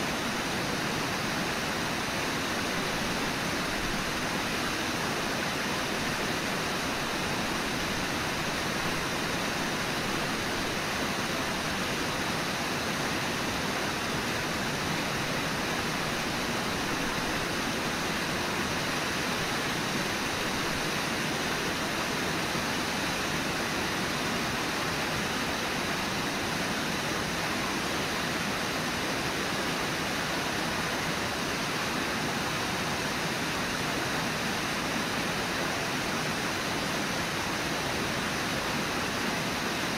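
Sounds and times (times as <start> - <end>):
river whitewater rushing: 0.0 - 39.9.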